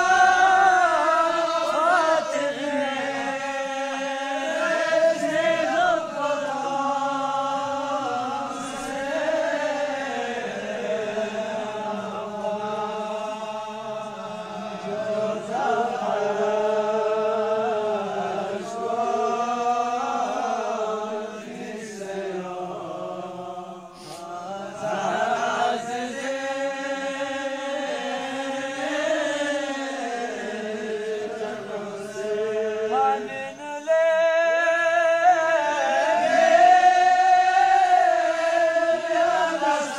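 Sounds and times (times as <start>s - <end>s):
single voice chanting: 0.0s - 39.9s.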